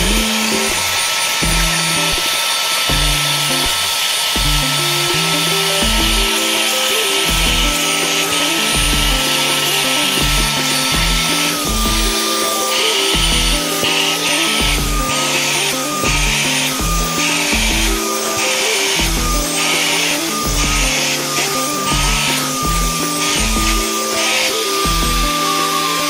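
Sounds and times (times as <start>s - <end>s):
background music with bass: 0.0s - 2.2s, 2.9s - 3.7s, 4.4s - 26.0s
spot cleaner motor whine: 0.0s - 26.0s
suction hiss: 0.0s - 26.0s.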